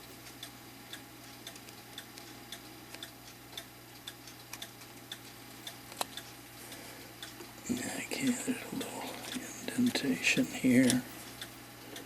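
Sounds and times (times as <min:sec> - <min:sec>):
mechanical clock ticking: 0:00.0 - 0:12.0.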